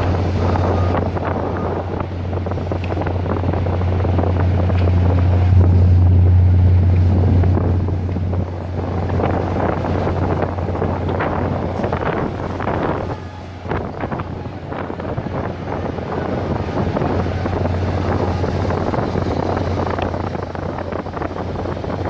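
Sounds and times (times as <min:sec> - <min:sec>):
engine humming: 0:00.0 - 0:22.0
wind buffeting microphone: 0:00.0 - 0:22.0.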